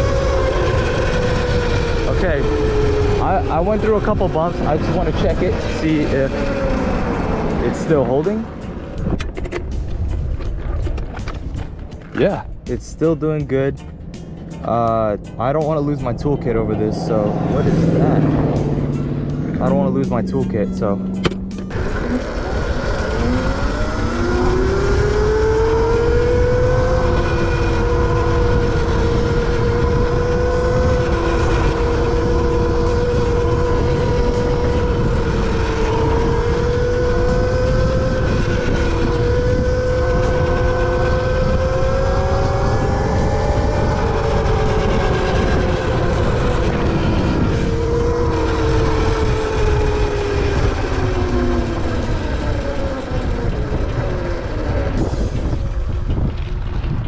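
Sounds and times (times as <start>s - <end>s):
electric motor whining: 0.0s - 12.2s, 15.4s - 57.0s
wind rushing over microphone: 0.0s - 57.0s.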